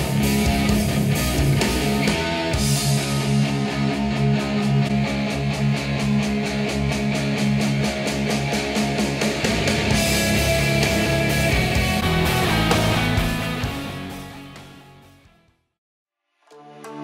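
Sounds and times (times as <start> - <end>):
rock song through speakers: 0.0 - 15.6.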